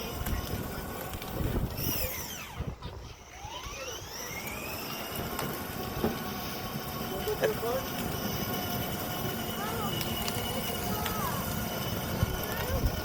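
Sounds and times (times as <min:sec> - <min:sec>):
low rumble from wheels: 0:00.0 - 0:13.0
toy truck electric motor whining: 0:00.0 - 0:13.0.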